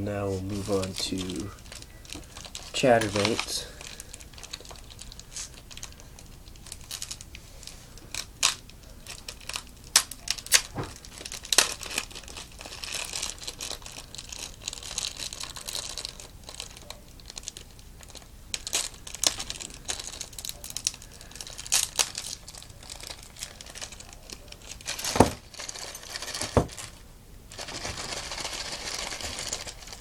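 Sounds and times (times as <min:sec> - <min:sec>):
plastic packaging crinkling: 0:00.2 - 0:30.0.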